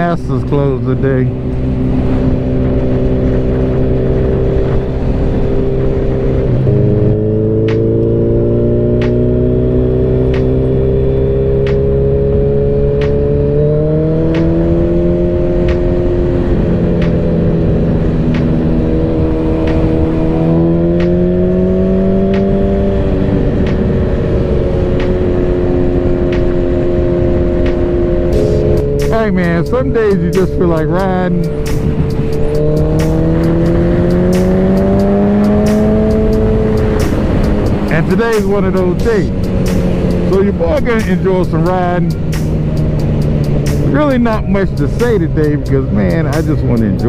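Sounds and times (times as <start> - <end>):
wind rush: 0.0 - 8.9, 13.4 - 45.0
motorcycle engine running: 0.0 - 47.0.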